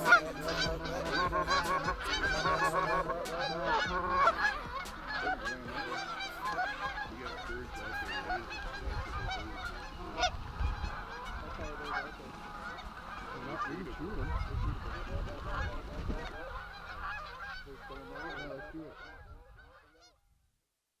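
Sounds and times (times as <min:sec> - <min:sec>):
geese honking: 0:00.0 - 0:20.1.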